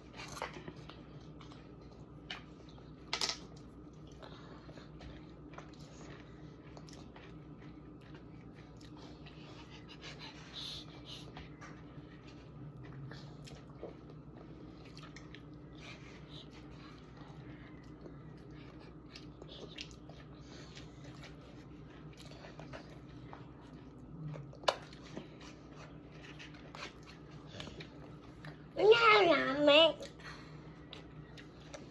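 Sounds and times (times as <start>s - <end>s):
low steady hum: 0.0s - 31.9s
soft chewing: 0.0s - 31.9s.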